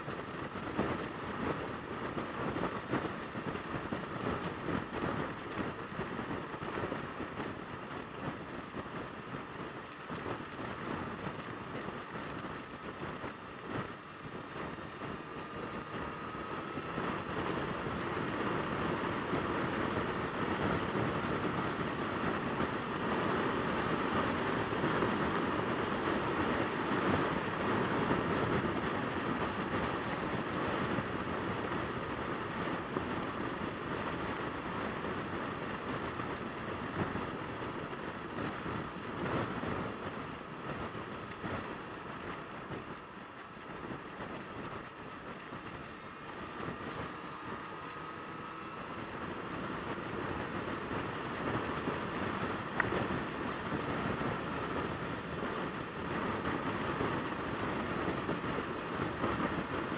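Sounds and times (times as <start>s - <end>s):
motorcycle engine cruising: 0.0s - 59.9s
road noise: 0.0s - 59.9s
wind rush: 0.0s - 59.9s.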